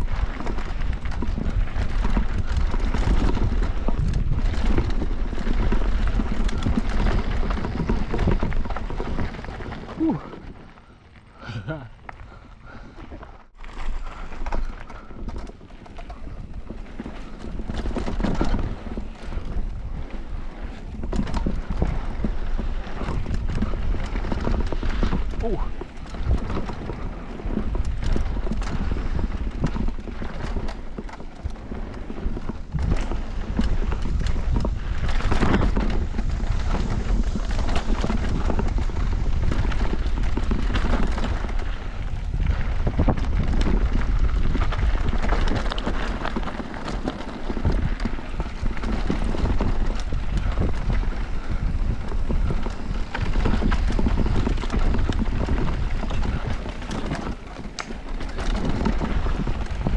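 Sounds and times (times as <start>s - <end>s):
bike rattling over bumps: 0.0s - 59.9s
bike tyres over dirt and rocks: 0.0s - 59.9s.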